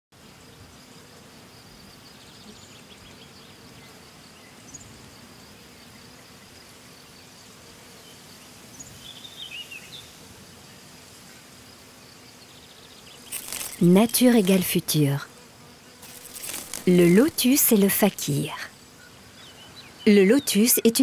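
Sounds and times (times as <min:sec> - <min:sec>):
high insect drone: 0:00.2 - 0:21.0.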